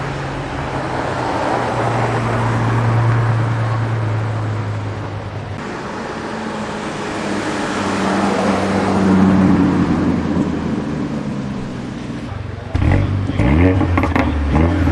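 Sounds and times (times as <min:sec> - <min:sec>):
car passing by: 0:00.0 - 0:14.9.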